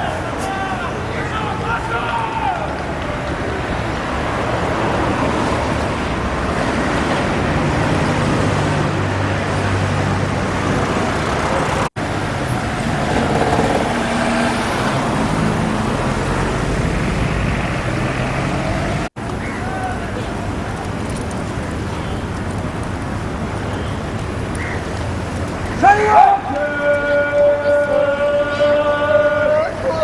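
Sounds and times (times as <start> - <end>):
road noise: 0.0 - 30.0
vehicle engines running: 0.0 - 30.0.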